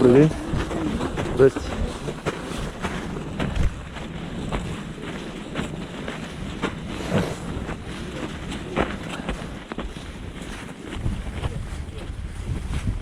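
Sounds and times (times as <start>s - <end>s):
footsteps walking uphill: 0.0s - 13.0s
wind rumbling on microphone: 0.0s - 13.0s.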